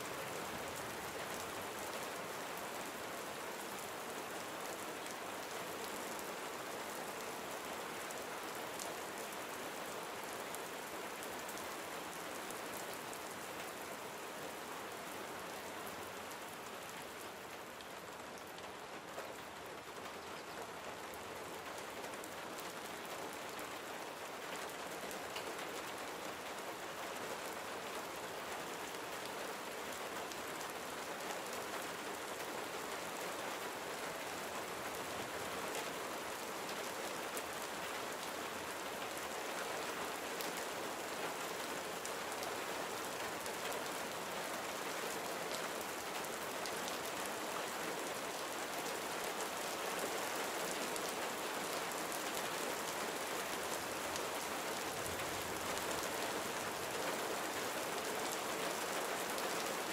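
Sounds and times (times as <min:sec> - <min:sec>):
gentle rain pattering: 0:00.0 - 0:59.9.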